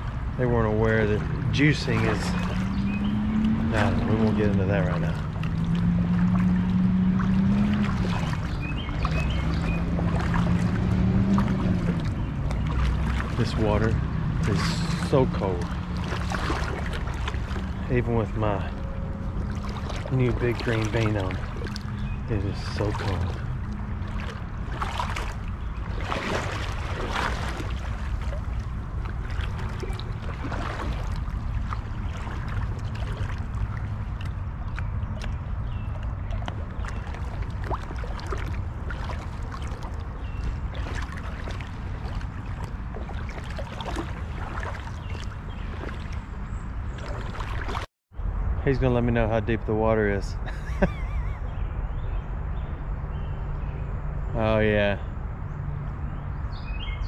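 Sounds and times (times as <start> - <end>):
steady low hum: 0.0 - 47.8
water splashing around wading legs: 0.0 - 47.9
steady low rumble: 0.0 - 50.5.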